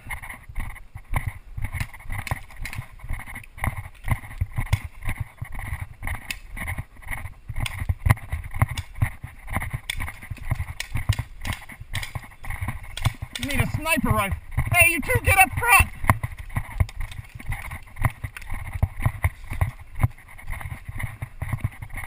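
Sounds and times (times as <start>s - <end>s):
gear jostling: 0.0s - 22.0s
running footsteps on grass: 0.0s - 22.0s
sharp clicks: 0.1s - 19.8s.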